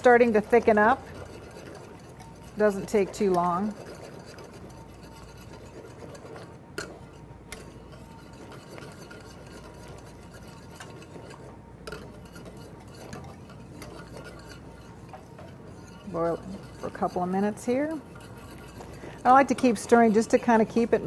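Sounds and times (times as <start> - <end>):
sauce boiling: 0.0 - 21.0
whisk clinking on pan: 0.0 - 21.0
whisk scraping a metal pan: 0.0 - 21.0.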